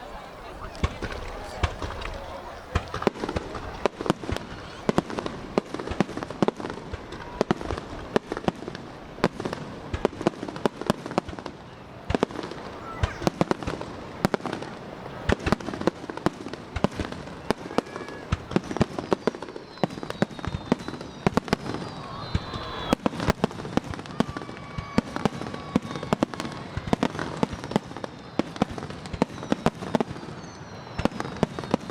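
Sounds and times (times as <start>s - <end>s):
fireworks booming and cracking: 0.0s - 31.9s.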